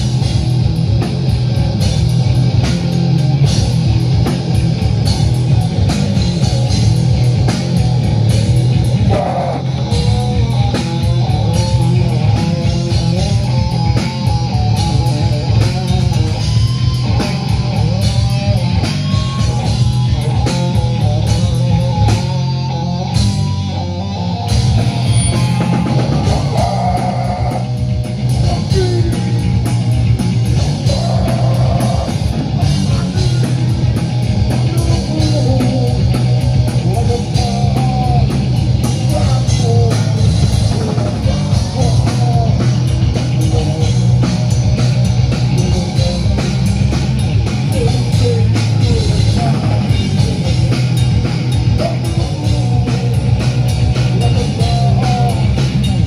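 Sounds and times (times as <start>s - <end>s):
distorted electric guitar riffing: 0.0s - 56.0s
live heavy metal band: 0.0s - 56.0s.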